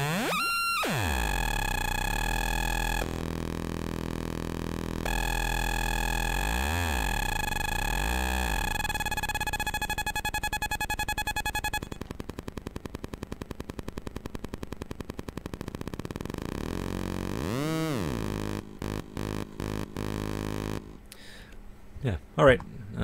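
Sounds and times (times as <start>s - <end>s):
square-wave synth buzz: 0.0s - 21.0s.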